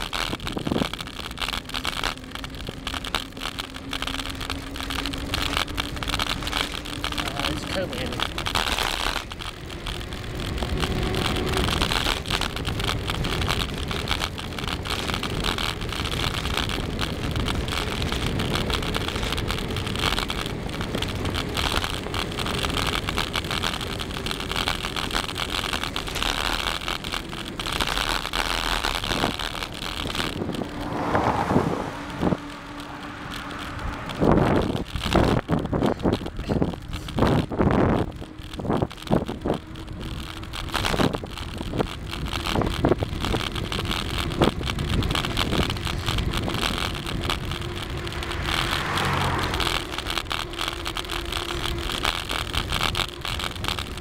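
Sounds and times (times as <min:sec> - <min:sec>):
bicycle bumps: 0:00.0 - 0:54.0
bicycle tyres humming on asphalt: 0:00.0 - 0:54.0
wind rushing over microphone: 0:00.0 - 0:54.0.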